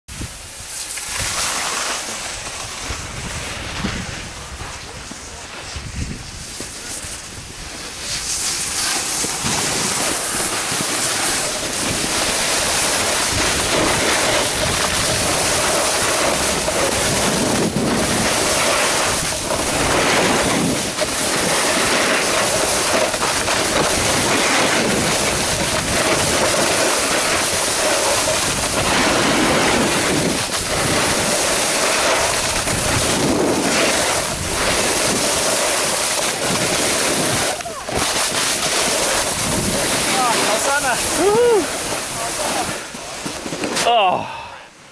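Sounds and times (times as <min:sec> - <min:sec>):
wind rushing over microphone: 0:00.1 - 0:43.7
skis scraping on packed snow: 0:00.1 - 0:44.0.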